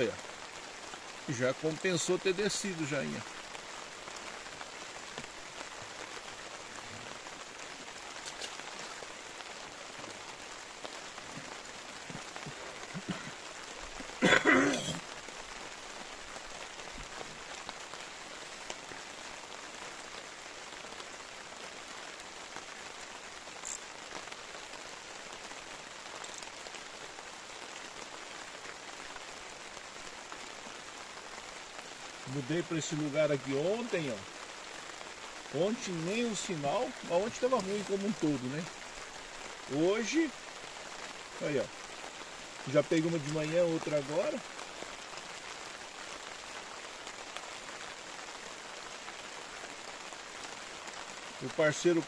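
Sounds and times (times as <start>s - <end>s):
rain falling on water: 0.0s - 52.0s.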